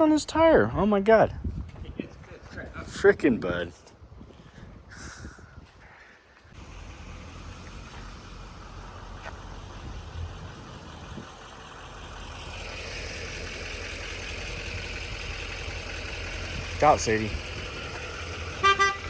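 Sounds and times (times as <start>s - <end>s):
vehicle engine rumbling: 0.0s - 3.1s, 6.5s - 19.0s.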